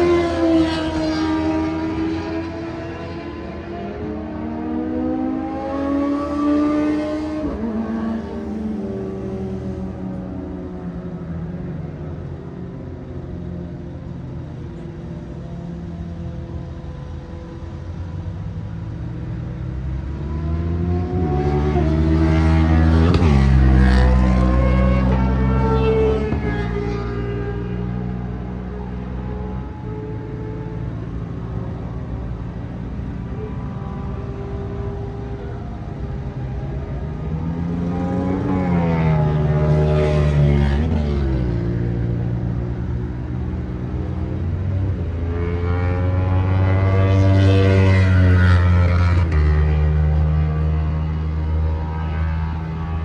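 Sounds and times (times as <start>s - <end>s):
motorcycle engine accelerating: 0.0s - 10.9s, 18.8s - 28.0s, 29.1s - 53.0s.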